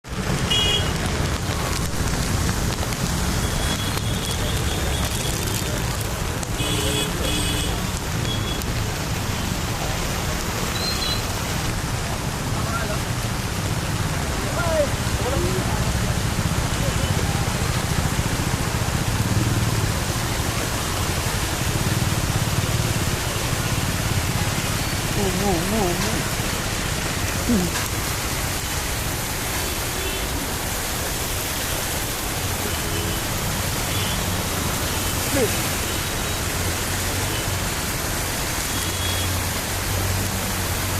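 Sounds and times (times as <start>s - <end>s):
water rushing across road: 0.0s - 40.9s.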